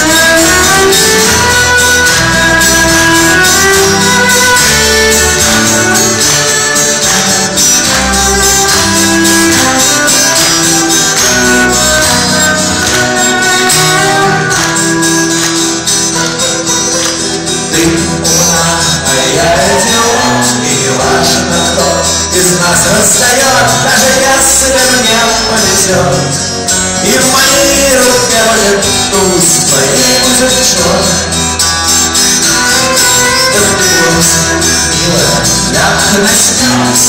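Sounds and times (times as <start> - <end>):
rock band playing instrumental: 0.0 - 37.0.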